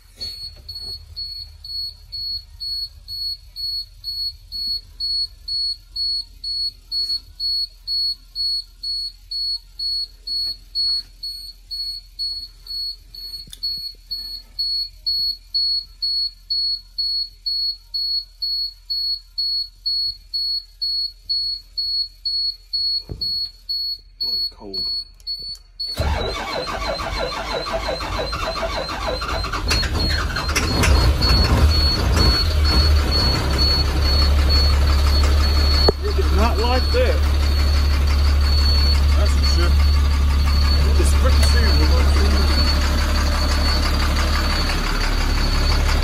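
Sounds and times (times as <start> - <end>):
high warning beeps: 0.1 - 46.0.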